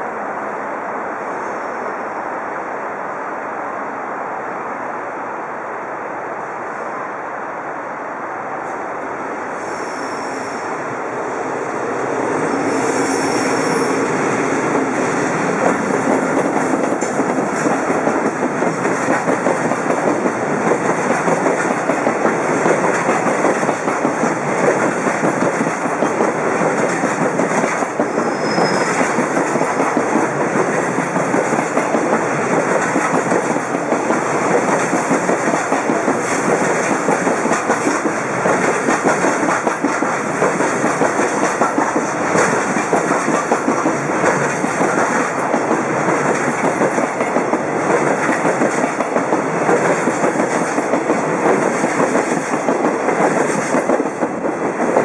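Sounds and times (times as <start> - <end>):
freight train wheels on rails: 6.2 - 55.0.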